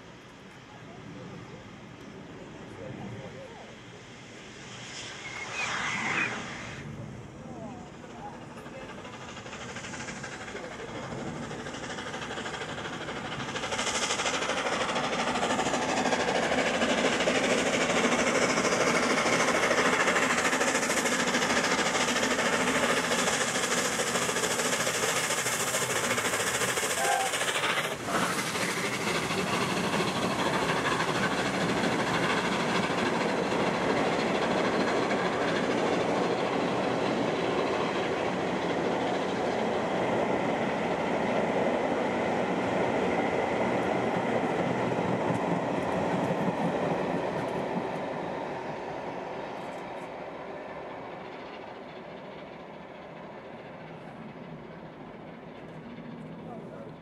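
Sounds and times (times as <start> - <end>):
train wheels on track: 0.0 - 57.0.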